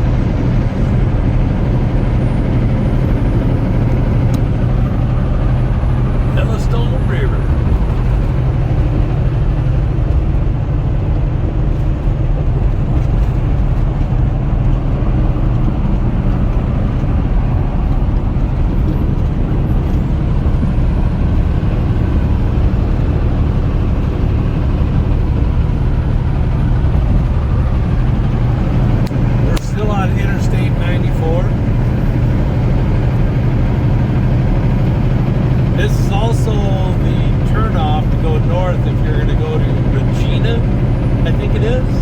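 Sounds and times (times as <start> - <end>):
vehicle engine and road drone: 0.0 - 42.0.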